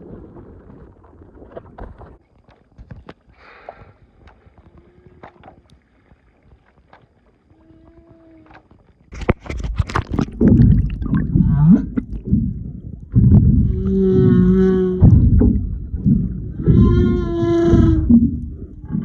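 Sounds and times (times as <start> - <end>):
whale song underwater: 0.0 - 9.2, 10.6 - 19.0.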